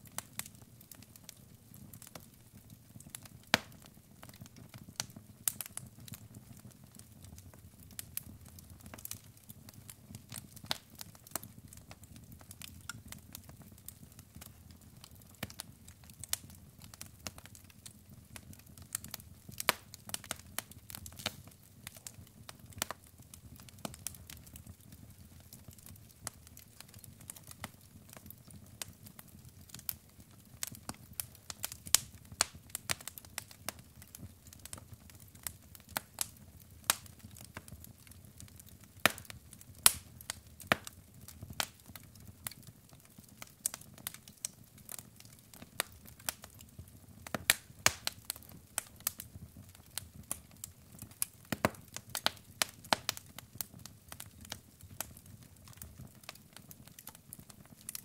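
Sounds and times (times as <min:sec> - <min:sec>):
logs crackling and popping: 0:00.0 - 0:58.0
soft low rumble of flames: 0:00.0 - 0:58.0.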